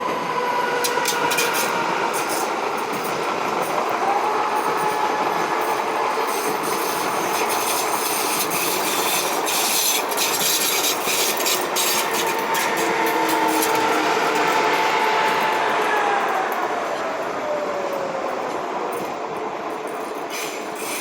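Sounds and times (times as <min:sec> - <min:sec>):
diesel train rolling: 0:00.0 - 0:21.0
train wheels clicking over rail joints: 0:00.7 - 0:21.0.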